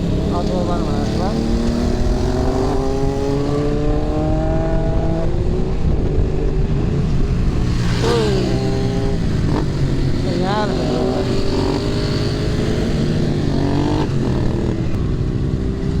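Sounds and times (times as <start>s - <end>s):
motorcycle engine accelerating: 0.0s - 16.0s
road noise rumbling: 0.0s - 16.0s.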